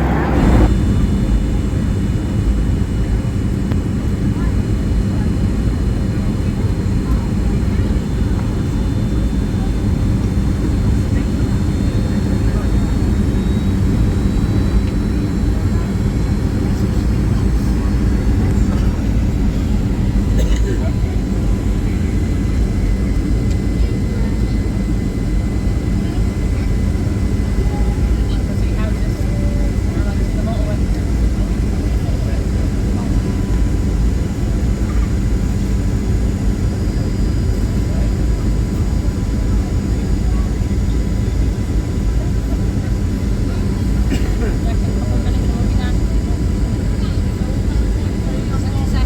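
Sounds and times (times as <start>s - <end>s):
airliner cabin engine rumble: 0.0s - 49.0s.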